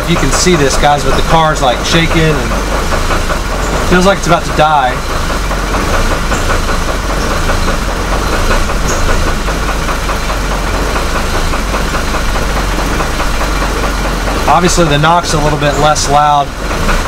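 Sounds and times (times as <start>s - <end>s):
engine idling rough: 0.0s - 17.0s
engine knock: 0.0s - 17.0s.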